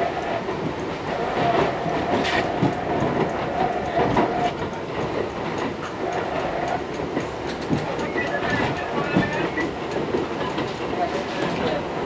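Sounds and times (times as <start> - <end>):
subway train rumble: 0.0 - 12.0
wheels clicking over rail joints: 0.1 - 12.0.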